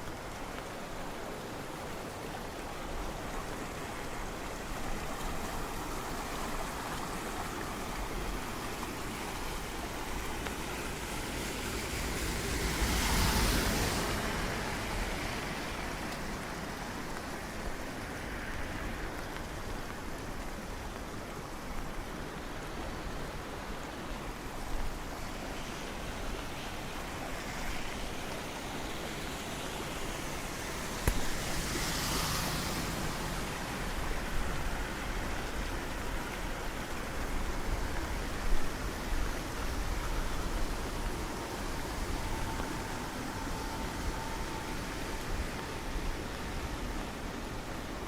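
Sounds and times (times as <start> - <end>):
rain: 0.0 - 48.0
rushing water: 0.0 - 48.0.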